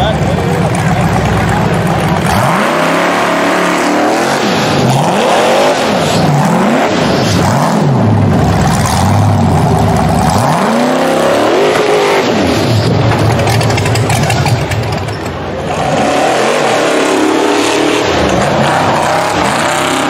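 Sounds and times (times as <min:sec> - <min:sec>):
buggy engine revving hard: 0:00.0 - 0:20.0.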